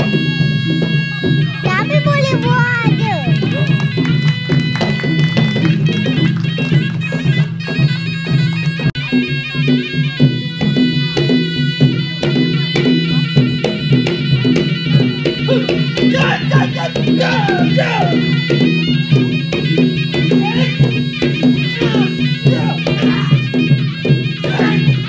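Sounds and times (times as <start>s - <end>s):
drum strokes: 0.0s - 25.0s
reed pipe nasal melody: 0.0s - 25.0s.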